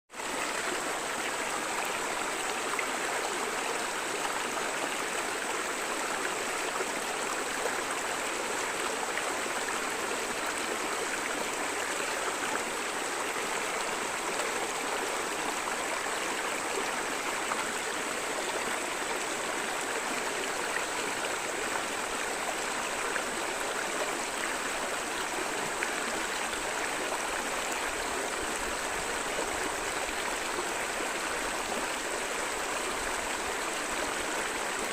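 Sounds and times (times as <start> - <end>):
river water flowing over stones: 0.1 - 34.9.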